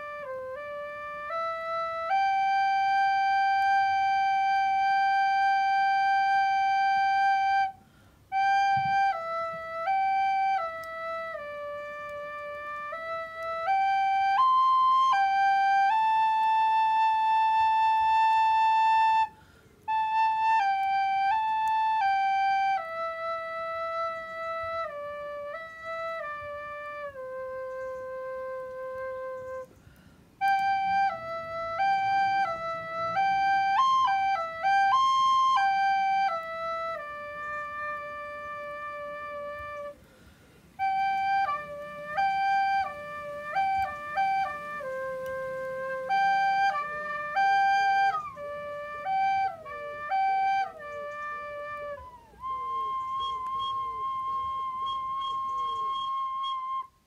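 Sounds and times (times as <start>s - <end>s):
recorder playing slow melody: 0.0s - 57.0s.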